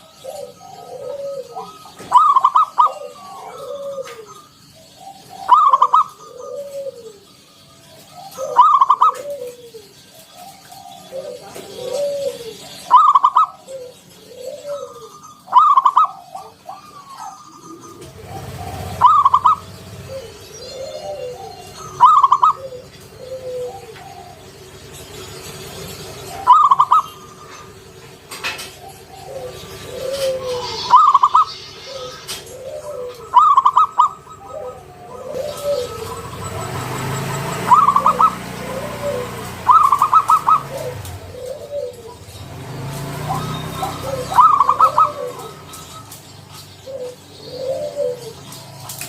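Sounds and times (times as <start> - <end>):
dove cooing: 0.0 - 49.0
fainter lower bird calls: 0.0 - 49.0.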